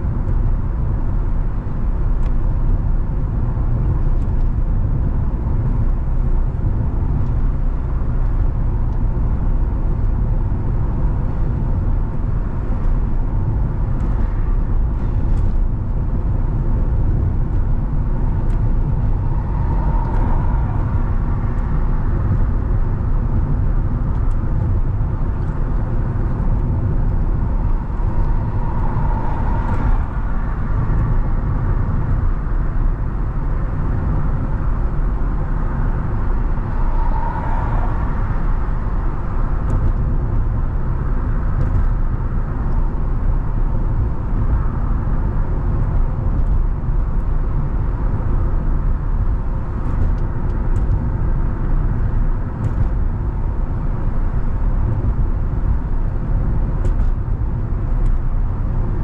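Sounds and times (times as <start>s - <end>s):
car engine: 0.0s - 59.0s
road and tyre noise: 0.0s - 59.0s.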